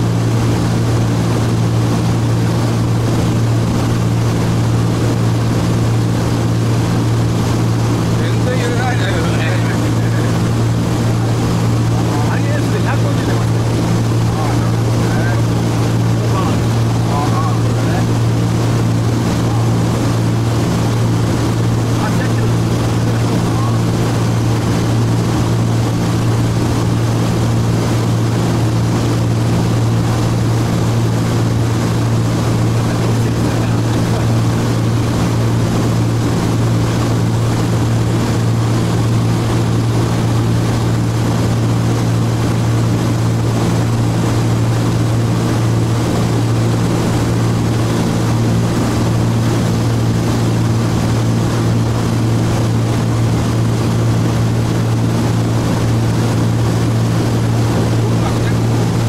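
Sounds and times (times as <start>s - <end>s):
aircraft engines droning in cockpit: 0.0s - 59.0s.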